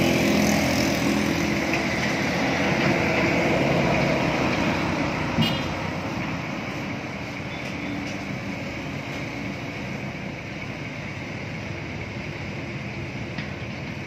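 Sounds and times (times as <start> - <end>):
engine hum: 0.0 - 14.0
road traffic: 0.0 - 14.0.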